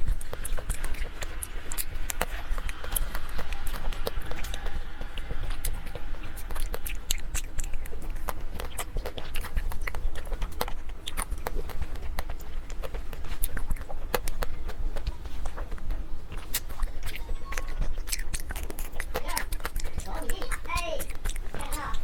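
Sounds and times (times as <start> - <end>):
steady low hum: 0.0 - 22.0
wet mouth sounds: 0.0 - 22.0.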